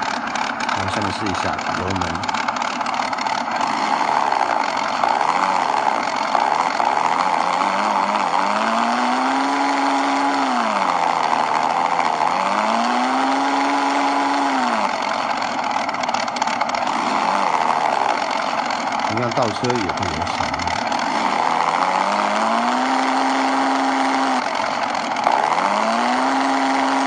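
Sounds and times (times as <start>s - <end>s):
simulated engine idling and revving: 0.0s - 27.0s.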